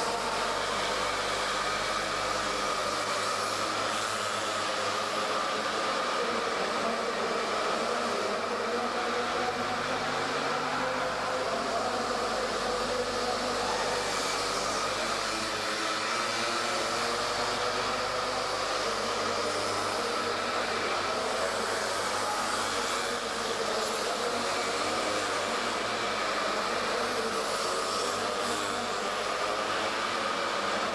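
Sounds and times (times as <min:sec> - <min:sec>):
two-stroke engine buzzing whine: 0:00.0 - 0:30.9.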